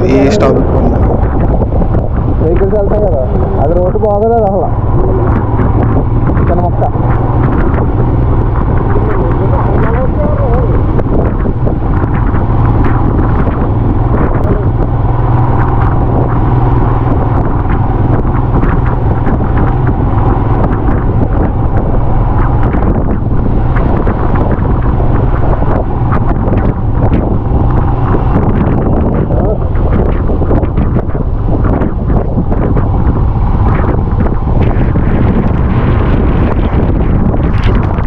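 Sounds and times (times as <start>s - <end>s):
low engine drone: 0.0s - 38.0s
wind buffeting microphone: 0.0s - 38.0s.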